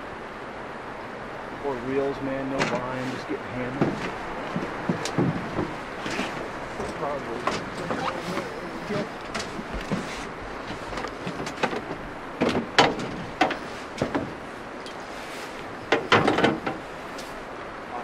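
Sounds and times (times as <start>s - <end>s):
river flowing: 0.0s - 18.0s
knocks and clatter in boat: 2.1s - 17.4s.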